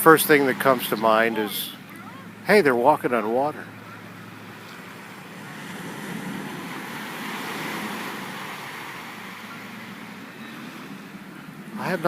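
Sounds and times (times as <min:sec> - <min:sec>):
small waves washing ashore: 0:00.0 - 0:12.0.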